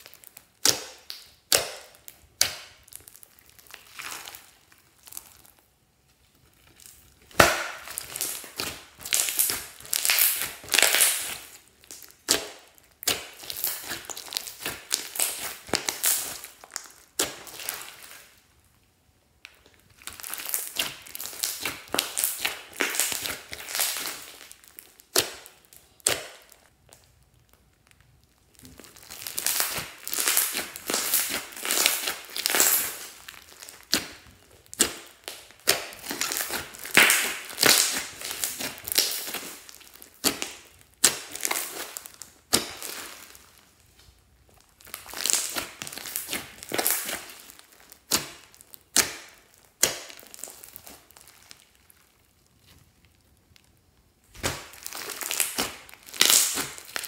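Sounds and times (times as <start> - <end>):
hands squishing beaded slime: 0.0 - 18.4, 19.4 - 57.0.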